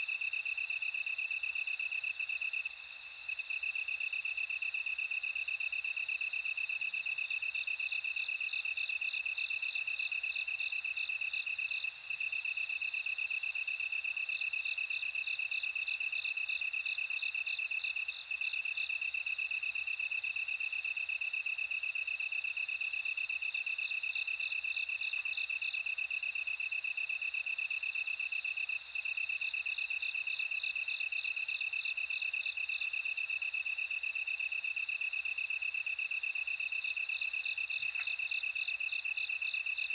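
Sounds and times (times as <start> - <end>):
crickets pulsing trill: 2.0 - 20.4, 23.8 - 39.9.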